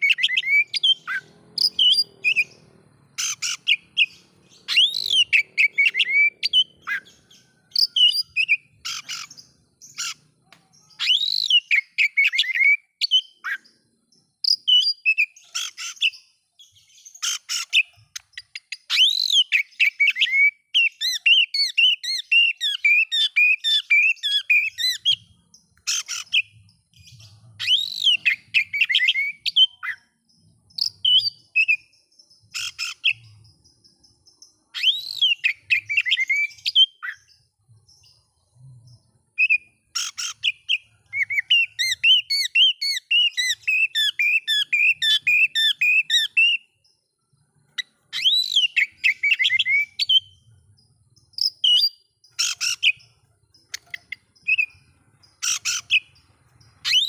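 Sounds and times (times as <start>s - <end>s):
bird singing whistled phrases: 0.0s - 2.6s, 3.2s - 13.7s, 14.4s - 25.3s, 25.9s - 30.1s, 30.8s - 31.9s, 34.7s - 37.4s, 39.4s - 46.7s, 47.8s - 50.4s, 51.4s - 56.1s, 56.7s - 57.0s
quick repeated bird chirps: 0.0s - 57.0s.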